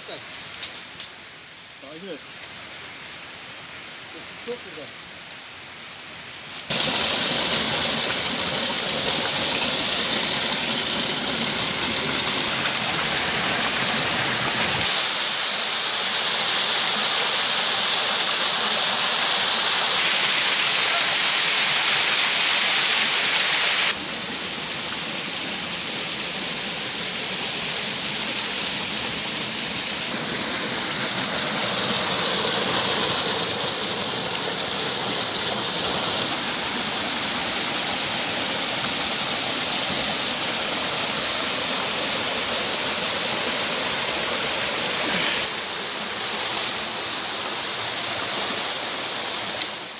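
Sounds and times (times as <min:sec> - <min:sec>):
small waterfall splashing: 0:06.6 - 0:49.9.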